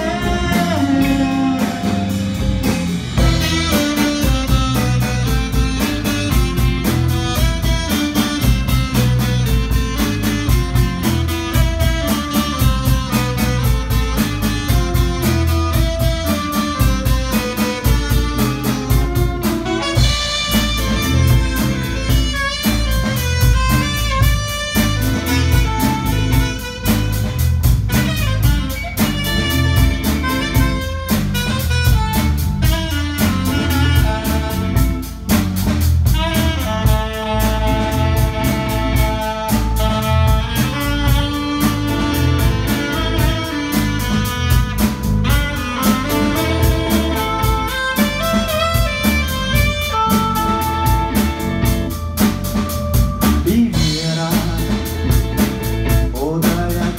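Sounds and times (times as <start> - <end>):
drum kit beat: 0.0 - 56.9
electric bass: 0.0 - 56.9
electric guitar: 0.0 - 56.9
saxophone melody: 0.0 - 56.9.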